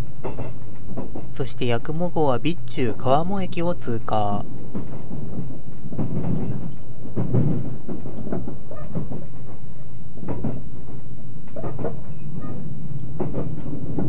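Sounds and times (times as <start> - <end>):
knocks and creaks from train car: 0.0 - 14.0
train rumble inside passenger car: 1.2 - 14.0.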